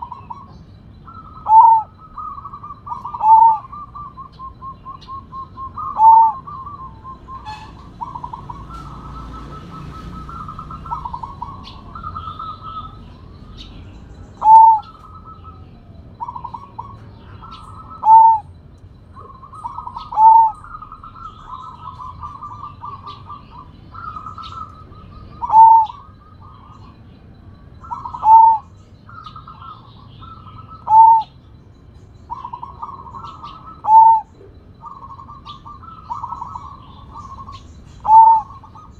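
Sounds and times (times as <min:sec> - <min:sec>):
doves cooing trill: 0:00.0 - 0:38.9
loud clear dove coo: 0:01.1 - 0:13.1, 0:14.3 - 0:18.4, 0:19.2 - 0:27.0, 0:27.8 - 0:31.3, 0:32.3 - 0:38.9.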